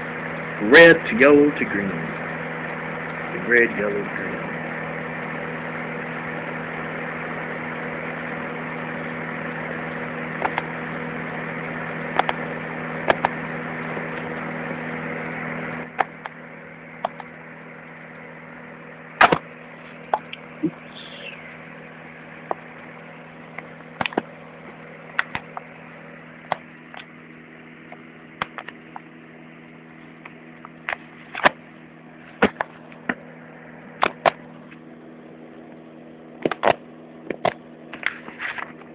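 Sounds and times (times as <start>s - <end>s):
fan heater blower humming: 0.0s - 38.9s.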